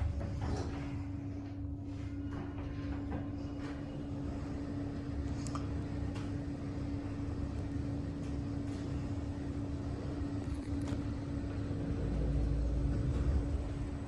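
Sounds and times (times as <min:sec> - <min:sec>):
constant hum: 0:00.0 - 0:14.0
lift rumbling: 0:00.0 - 0:14.0.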